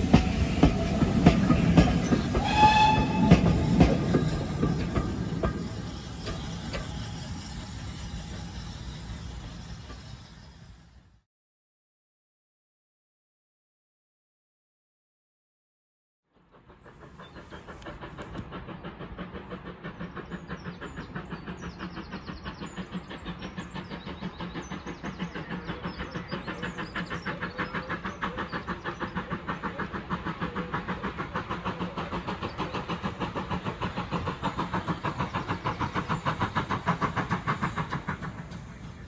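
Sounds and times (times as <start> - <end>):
steam locomotive chuffing: 0.0 - 11.2, 16.4 - 39.0.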